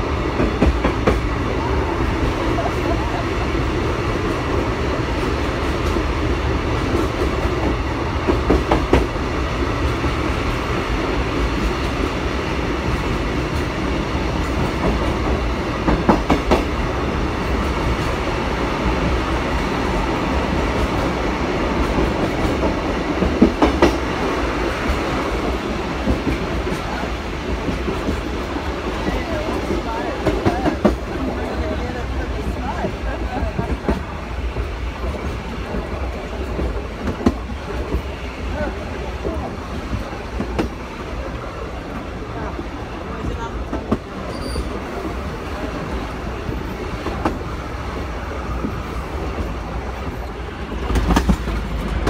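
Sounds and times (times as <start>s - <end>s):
train rumble and hiss: 0.0s - 52.0s.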